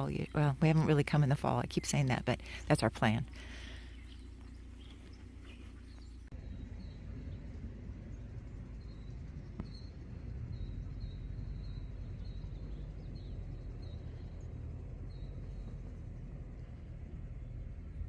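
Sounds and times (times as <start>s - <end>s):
low outdoor rumble: 0.0s - 18.0s
small bird chirping: 0.0s - 18.0s.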